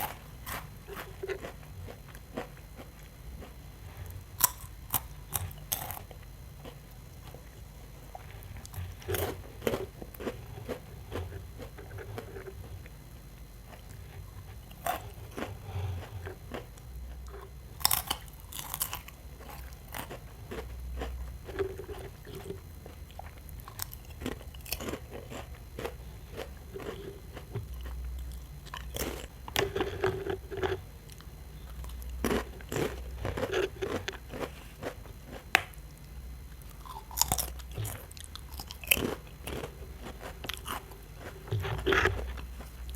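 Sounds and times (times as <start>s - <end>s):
soft chewing: 0.0s - 42.9s.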